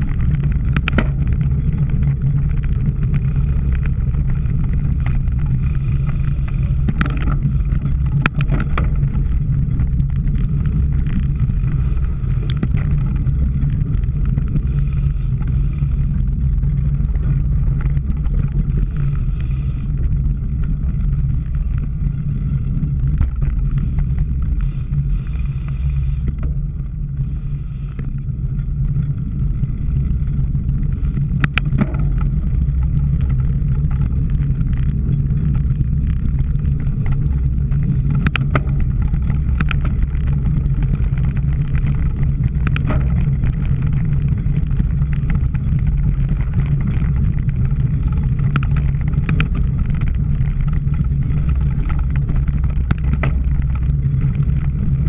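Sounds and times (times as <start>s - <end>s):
bike clicks and rattles: 0.0s - 55.0s
bike riding rumble: 0.0s - 55.0s
wind noise: 0.0s - 55.0s.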